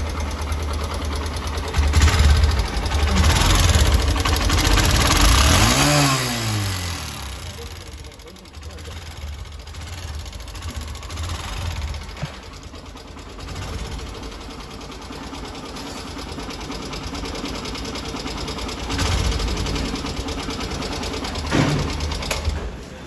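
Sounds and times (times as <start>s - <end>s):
motorcycle engine clattering: 0.0s - 22.9s.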